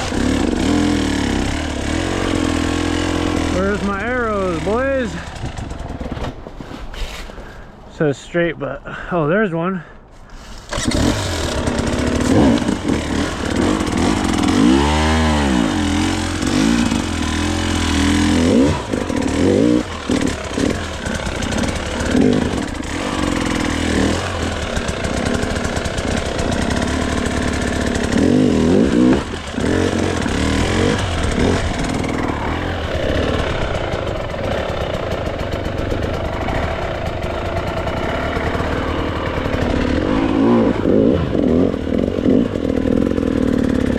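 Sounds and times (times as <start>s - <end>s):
dirt bike engine revving: 0.0s - 6.2s, 10.4s - 43.9s.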